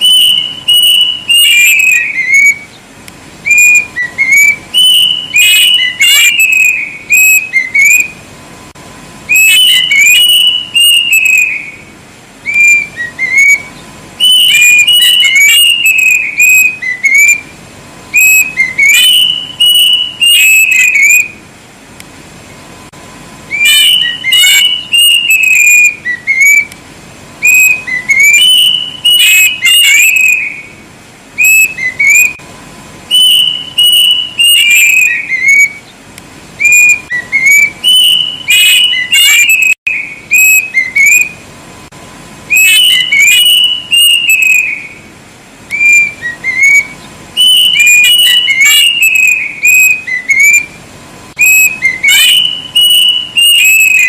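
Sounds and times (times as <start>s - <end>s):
cuckoo whistled song: 0.0s - 8.3s, 9.2s - 21.4s, 23.5s - 26.8s, 27.4s - 30.8s, 31.4s - 32.4s, 33.1s - 36.0s, 36.6s - 41.5s, 42.5s - 45.1s, 45.7s - 50.8s, 51.4s - 54.0s.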